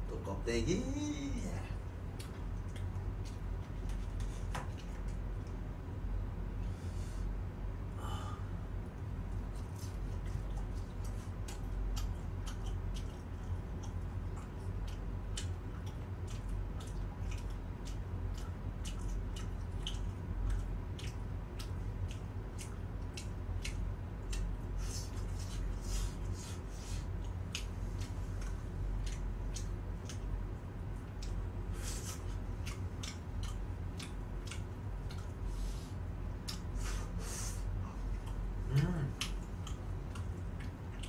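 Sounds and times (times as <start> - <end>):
steady low hum: 0.0 - 41.0
crunchy chewing: 1.8 - 5.7, 8.9 - 41.0.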